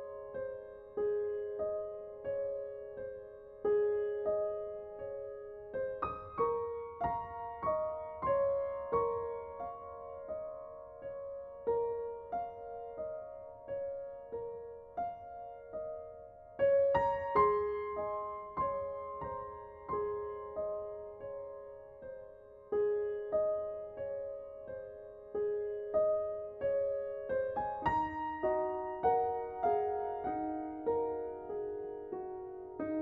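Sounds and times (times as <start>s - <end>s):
slow solo piano: 0.0s - 33.0s.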